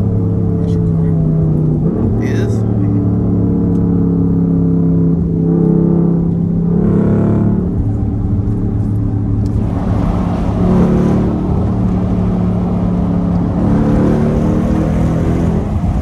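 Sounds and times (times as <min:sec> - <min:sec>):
v eight exhaust droning: 0:00.0 - 0:16.0.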